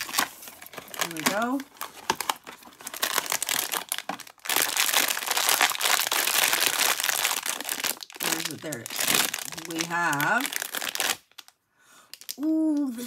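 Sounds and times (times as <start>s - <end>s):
cardboard box crackling open: 0.0s - 11.2s
foil bag crinkling: 0.0s - 11.5s.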